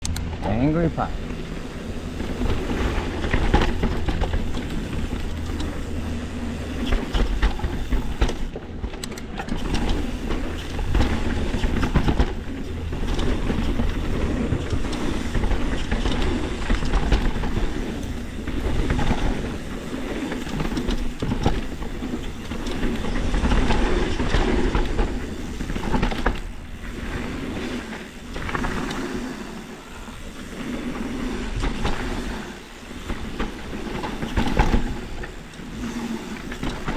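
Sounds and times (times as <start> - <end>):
bike knocks and rattles: 0.0 - 36.9
tyres rumbling over dirt and rocks: 0.2 - 36.9.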